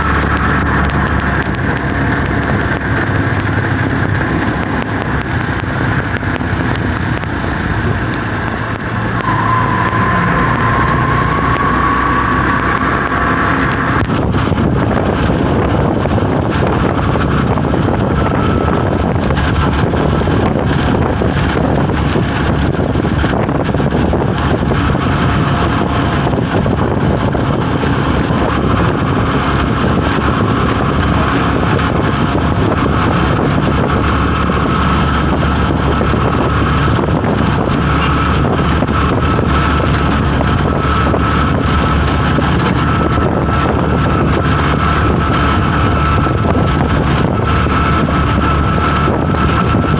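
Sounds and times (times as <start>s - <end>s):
vehicle engine and road noise: 0.0s - 49.9s
wind buffeting microphone: 0.0s - 49.9s.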